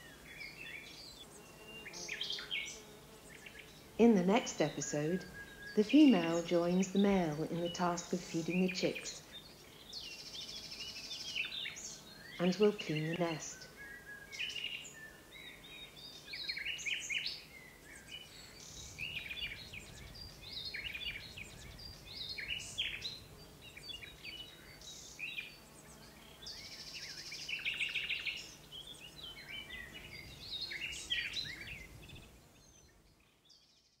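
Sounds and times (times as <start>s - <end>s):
songbirds chirping and trilling: 0.0s - 34.0s.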